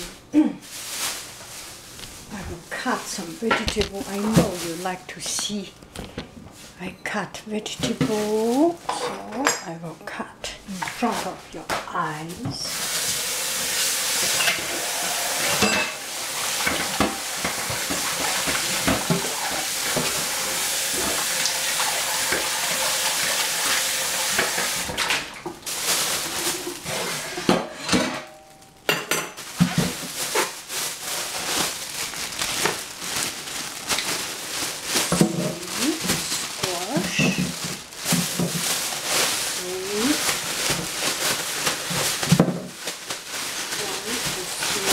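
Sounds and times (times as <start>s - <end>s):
kitchen utensils clinking: 2.2s - 6.2s, 6.9s - 9.8s, 10.7s - 31.8s, 33.9s - 44.9s.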